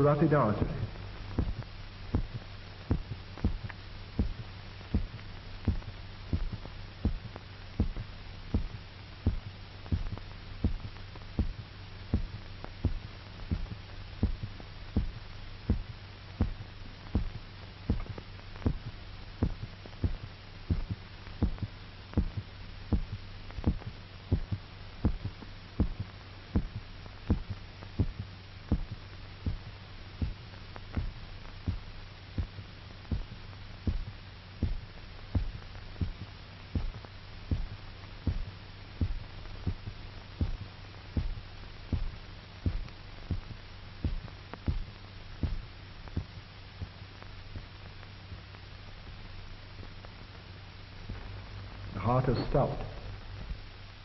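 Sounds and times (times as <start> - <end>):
steady low hum: 0.0 - 54.0
amplified heartbeat thumps: 0.2 - 47.0.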